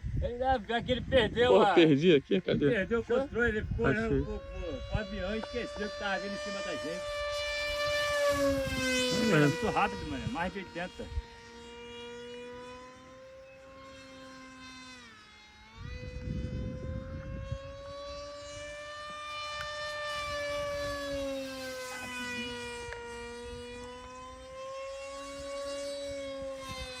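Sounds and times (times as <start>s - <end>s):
model airplane motor whine: 0.0s - 27.0s.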